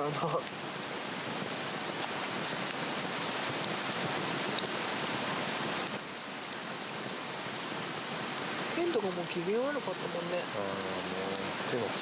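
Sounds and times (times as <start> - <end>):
faint fire crackles: 0.0 - 12.0
log fire hissing: 0.0 - 12.0.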